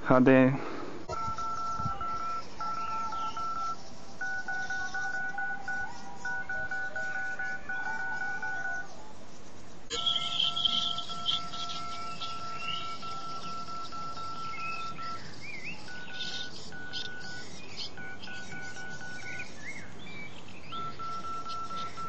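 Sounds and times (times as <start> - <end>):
two-tone dial pad beeps: 1.1 - 8.9, 9.9 - 19.5, 20.7 - 22.0.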